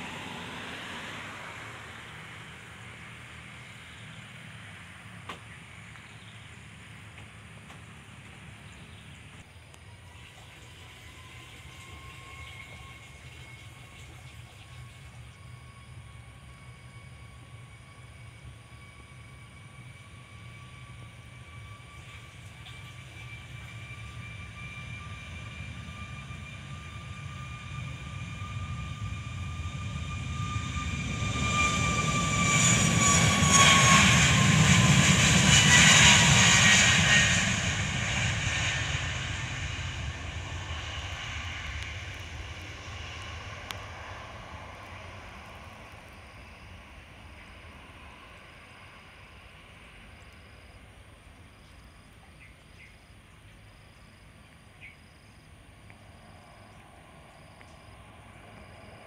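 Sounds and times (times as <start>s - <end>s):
jet aircraft passing: 0.0s - 52.0s, 55.0s - 59.0s.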